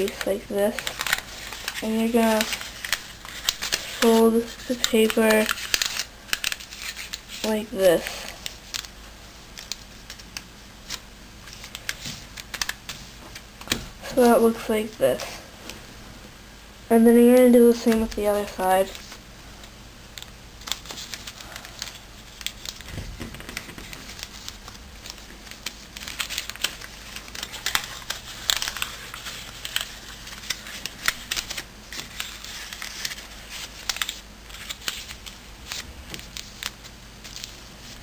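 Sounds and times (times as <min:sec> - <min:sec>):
paper rustling and crinkling: 0:00.0 - 0:15.4, 0:20.2 - 0:38.0.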